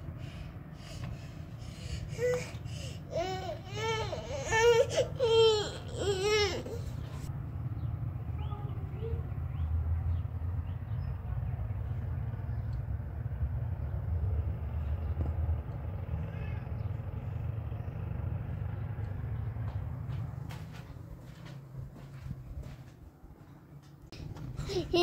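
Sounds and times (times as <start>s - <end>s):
low rumble with hiss: 0.0s - 23.3s.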